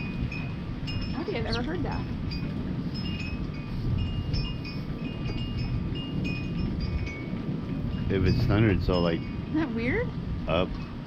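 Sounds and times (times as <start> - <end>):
wind chimes tinkling: 0.0 - 10.1
low rumble of distant thunder: 0.0 - 11.0.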